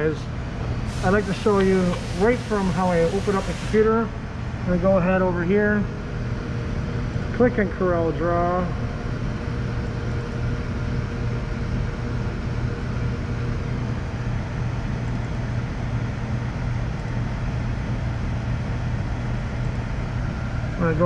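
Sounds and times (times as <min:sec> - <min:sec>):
room ventilation hum and hiss: 0:00.0 - 0:21.0.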